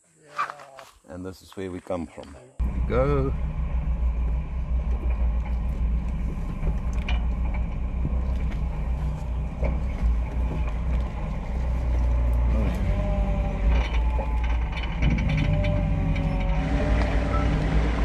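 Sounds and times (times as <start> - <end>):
vehicle engine at low revs: 2.6 - 18.0.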